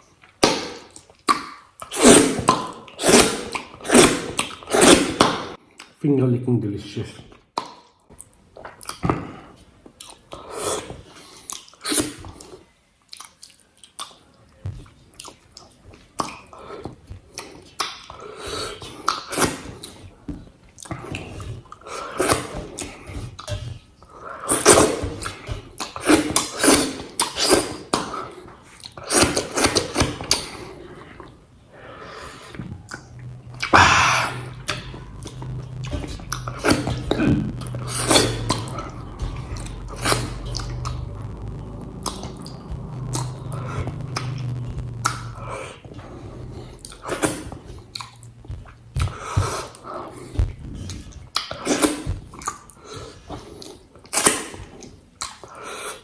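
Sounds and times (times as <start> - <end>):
chewing and mouth sounds: 7.3 - 31.3, 32.0 - 56.0.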